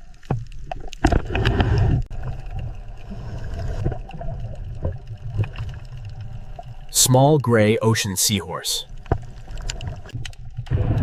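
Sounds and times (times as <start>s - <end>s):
water gurgling: 0.0s - 11.0s.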